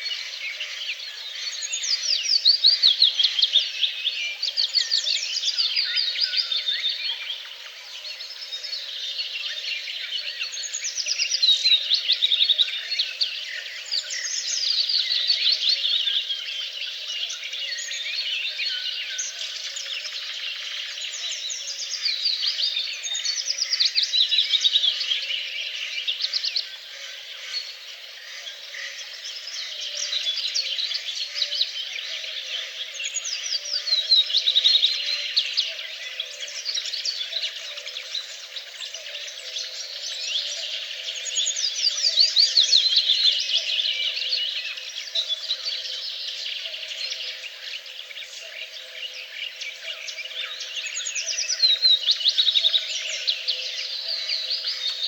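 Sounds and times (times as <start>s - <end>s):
birds singing trills: 0.0s - 55.0s.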